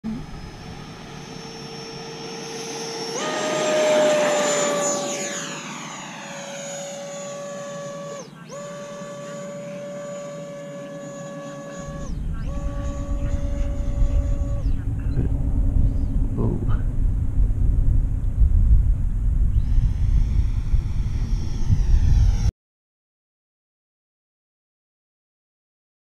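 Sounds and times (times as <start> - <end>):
electric ducted fan whine: 0.1 - 22.5.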